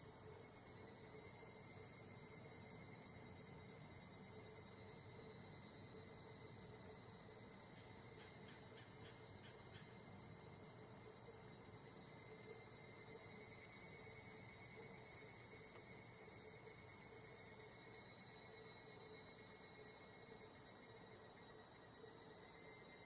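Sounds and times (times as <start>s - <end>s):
cicadas chorus: 0.0s - 23.0s.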